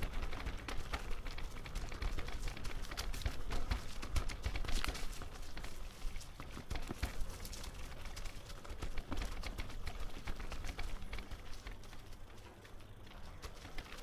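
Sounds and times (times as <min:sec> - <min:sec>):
footsteps on forest trail: 0:00.0 - 0:14.0.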